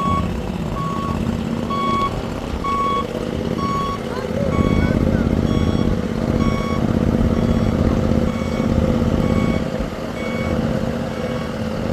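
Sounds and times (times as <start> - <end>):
backup alarm beeping: 0.0 - 11.5
engine rumble: 0.0 - 11.9.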